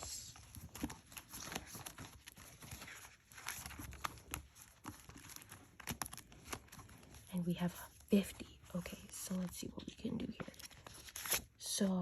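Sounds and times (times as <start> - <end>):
paper envelope rustling: 0.0 - 11.6.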